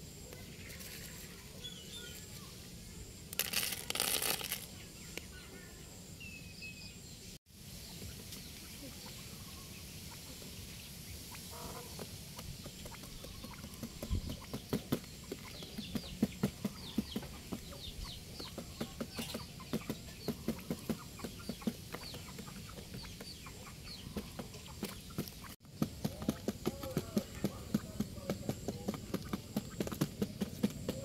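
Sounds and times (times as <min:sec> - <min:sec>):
quails pecking grain: 0:00.0 - 0:05.9, 0:07.6 - 0:31.0.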